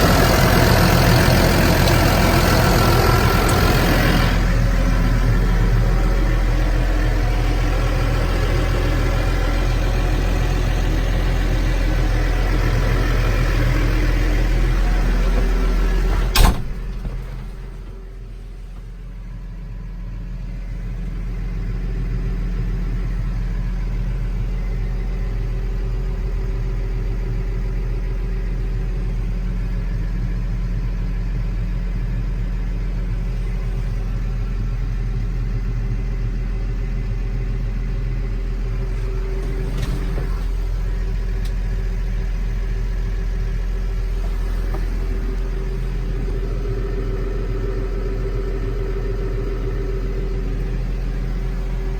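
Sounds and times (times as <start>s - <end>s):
tractor diesel engine idling: 0.0s - 51.9s.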